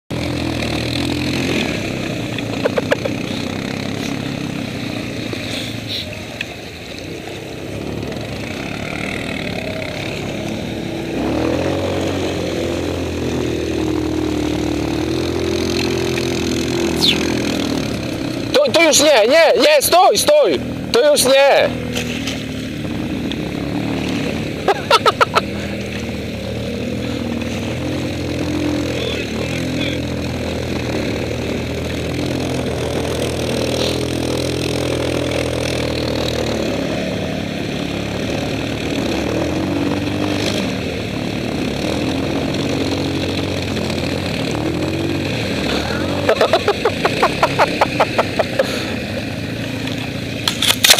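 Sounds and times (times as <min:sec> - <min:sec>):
quad engine running under load: 0:00.1 - 0:50.9.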